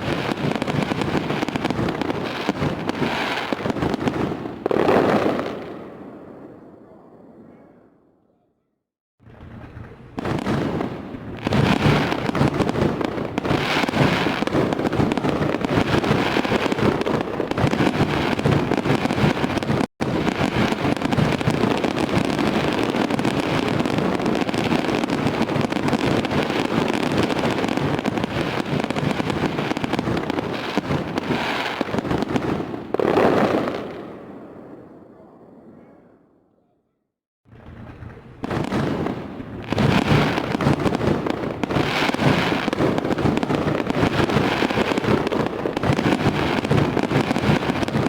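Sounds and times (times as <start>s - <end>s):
fireworks crackling and popping: 0.0s - 6.2s, 9.2s - 34.5s, 37.5s - 48.0s.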